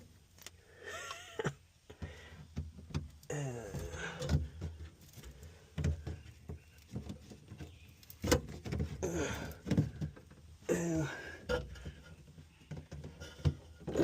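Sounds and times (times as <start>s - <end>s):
hand tools knocking and scraping: 2.0s - 14.0s.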